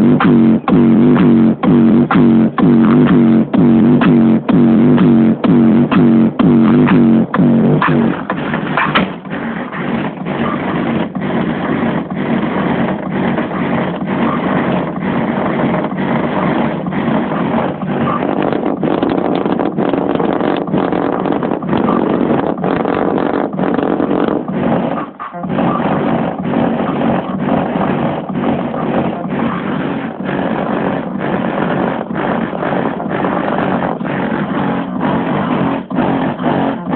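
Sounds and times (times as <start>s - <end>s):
loud music with a steady beat: 0.0s - 36.9s.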